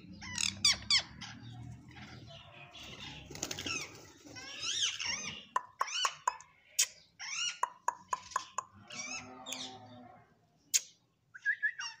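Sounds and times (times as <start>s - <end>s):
parakeets squawking: 0.0s - 9.7s.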